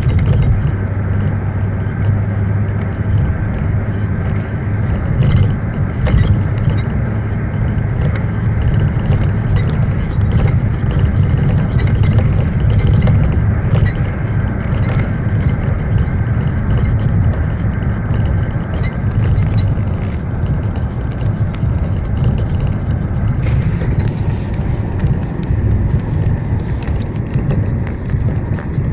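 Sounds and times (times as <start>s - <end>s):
road and tyre rumble: 0.0s - 28.9s
suspension knocks and clicks: 0.0s - 28.9s.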